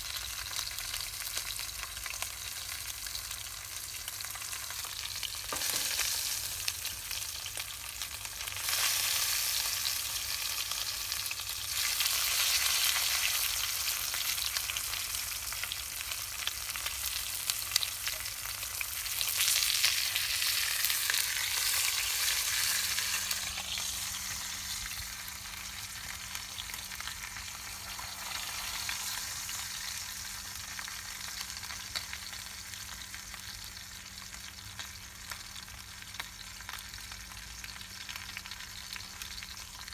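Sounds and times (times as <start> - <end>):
meat sizzling over campfire: 0.0 - 39.9.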